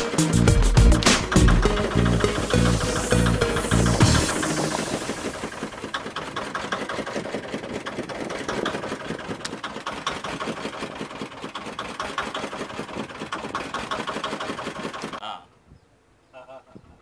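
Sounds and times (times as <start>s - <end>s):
boat engine running: 0.0s - 15.2s.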